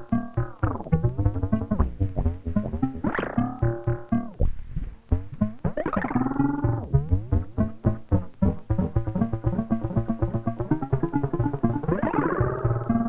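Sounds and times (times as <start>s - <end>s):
low synth bass line: 0.0s - 13.0s
synthesizer plucky notes: 0.0s - 13.0s.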